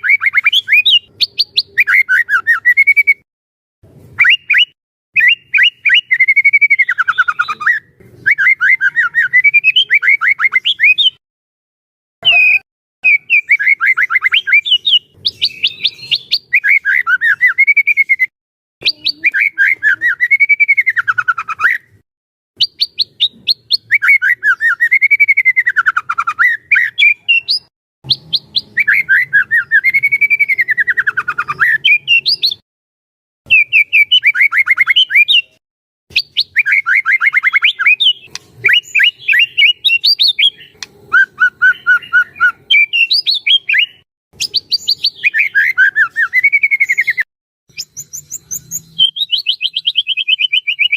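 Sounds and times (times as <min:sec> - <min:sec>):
bird singing rapid chattering notes: 0:00.0 - 0:03.2, 0:04.2 - 0:11.2, 0:12.2 - 0:22.0, 0:22.6 - 0:32.6, 0:33.5 - 0:50.9.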